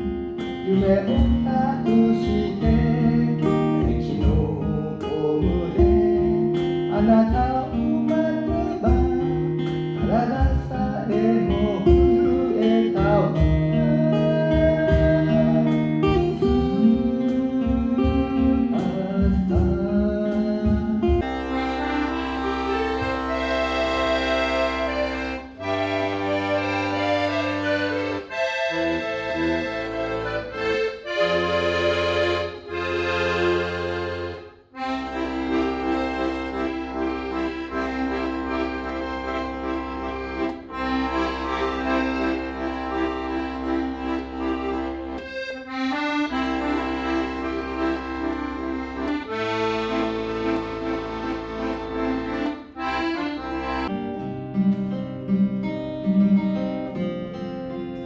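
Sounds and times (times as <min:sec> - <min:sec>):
accordion playing chords: 0:00.0 - 0:58.0.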